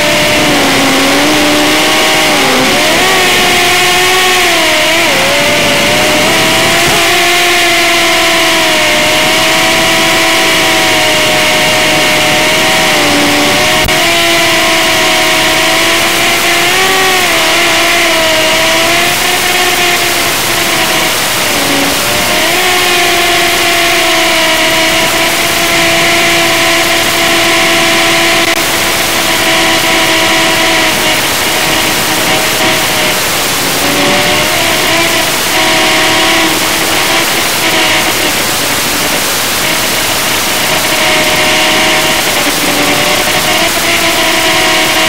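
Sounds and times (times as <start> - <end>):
drone motors whining: 0.0 - 45.0.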